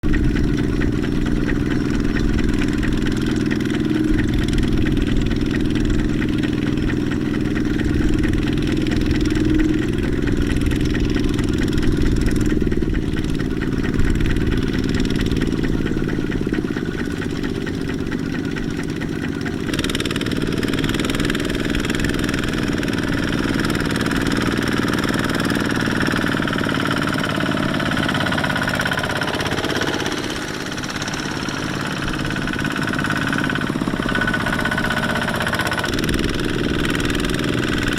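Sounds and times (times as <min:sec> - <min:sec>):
harsh high-pitched clatter: 0:00.0 - 0:37.9
tractor diesel engine running: 0:00.0 - 0:37.9.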